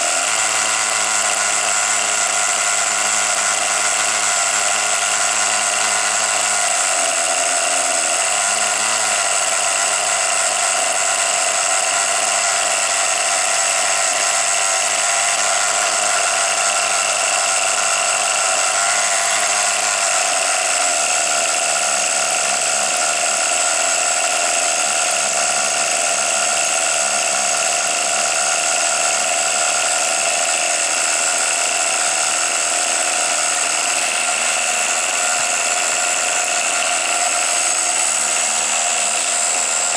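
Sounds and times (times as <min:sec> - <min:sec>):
model car engine buzzing: 0:00.0 - 0:39.9.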